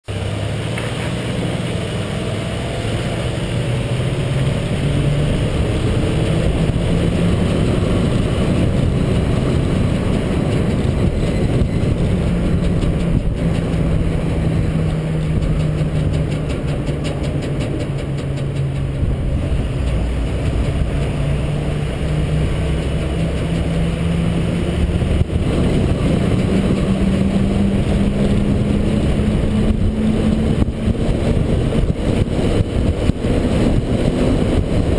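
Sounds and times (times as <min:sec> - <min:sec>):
road and wind noise: 0:00.0 - 0:34.9
truck diesel engine: 0:00.0 - 0:34.9.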